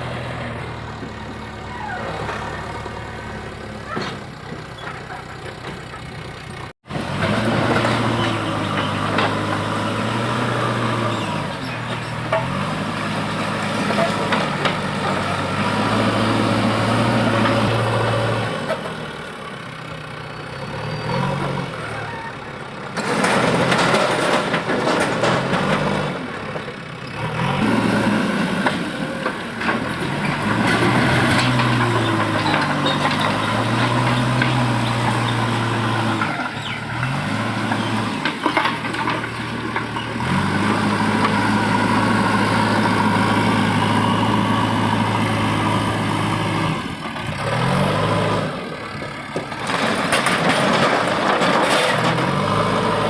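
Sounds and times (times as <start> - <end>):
diesel engine revving: 0.0 - 53.0.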